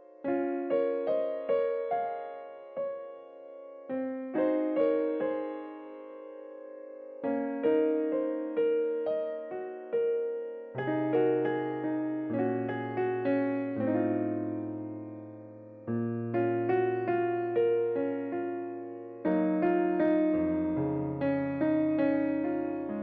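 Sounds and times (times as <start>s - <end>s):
electric piano melody: 0.0s - 23.0s.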